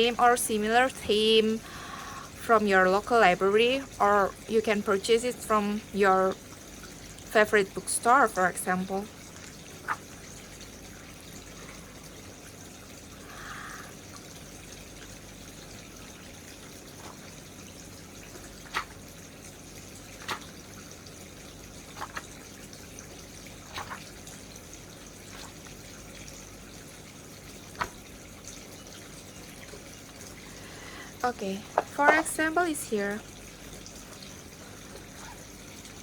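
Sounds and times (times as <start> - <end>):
low background hiss: 0.0 - 21.8, 22.5 - 36.0.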